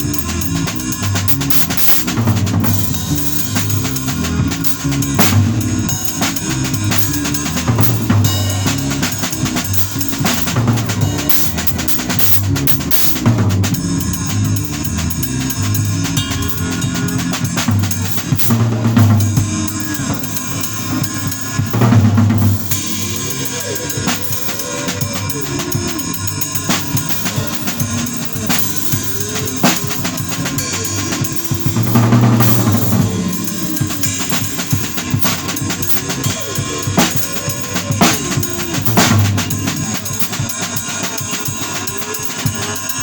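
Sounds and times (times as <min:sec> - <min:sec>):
bass line: 0:00.0 - 0:24.2, 0:25.0 - 0:40.0
drum kit playing: 0:00.0 - 0:43.0.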